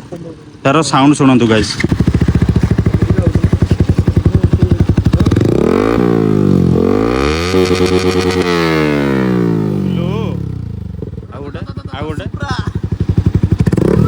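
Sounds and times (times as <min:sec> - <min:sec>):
motorcycle engine idling and revving: 0:01.4 - 0:14.0.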